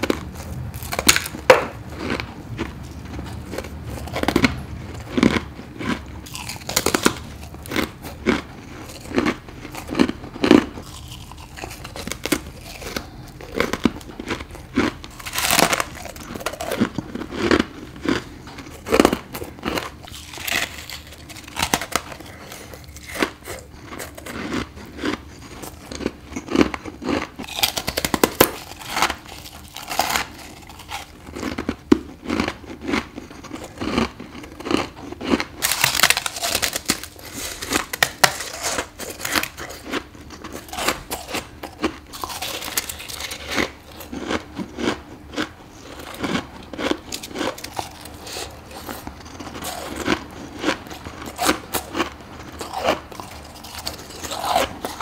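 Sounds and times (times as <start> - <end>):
chewing ice crunches: 0.0 - 55.0.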